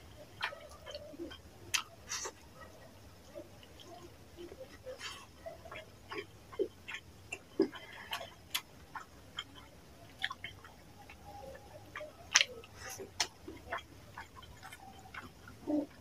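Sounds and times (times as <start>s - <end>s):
wet chewing and lip-smacking: 0.1s - 16.0s.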